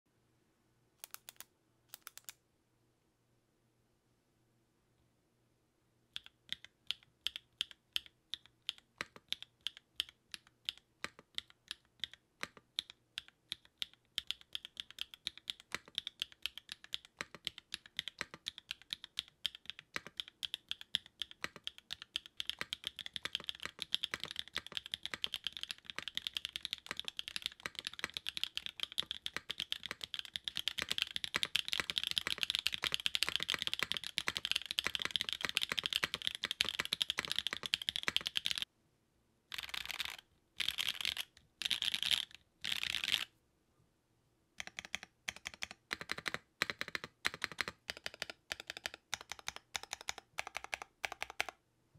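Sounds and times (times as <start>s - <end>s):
typing on mechanical keyboard: 1.0s - 2.4s, 6.2s - 38.7s, 39.5s - 43.3s, 44.6s - 51.6s.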